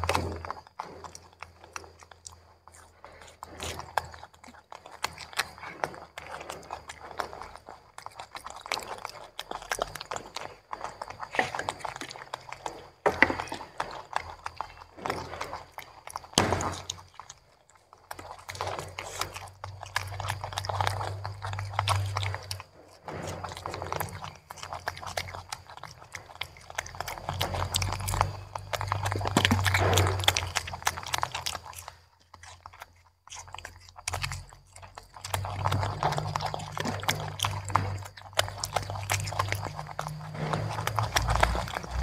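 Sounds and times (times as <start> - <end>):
monkeys chewing vegetables: 0.0 - 42.0.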